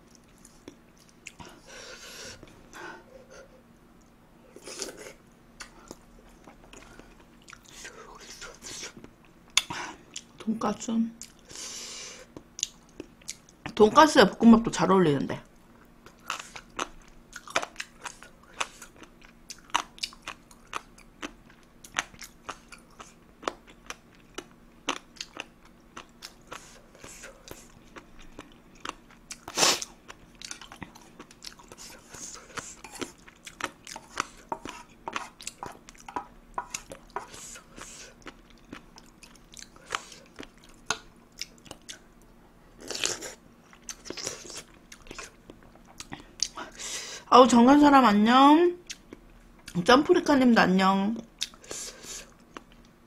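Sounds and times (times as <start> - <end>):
person chewing and crunching food: 0.0 - 2.7, 4.0 - 10.5, 11.2 - 13.8, 15.6 - 46.8, 51.3 - 53.0.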